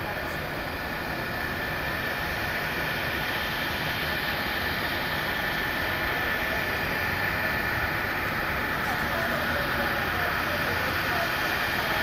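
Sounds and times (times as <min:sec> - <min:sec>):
jet airliner taxiing: 0:00.0 - 0:12.0.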